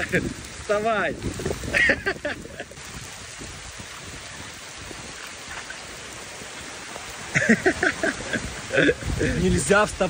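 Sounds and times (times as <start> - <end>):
heavy rain on pavement and leaves: 0.0 - 10.0.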